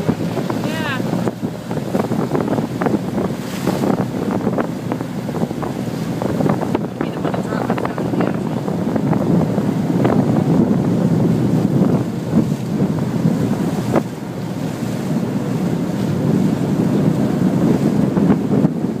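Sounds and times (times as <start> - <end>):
water rushing past boat: 0.0 - 19.0
wind buffeting microphone: 0.0 - 19.0.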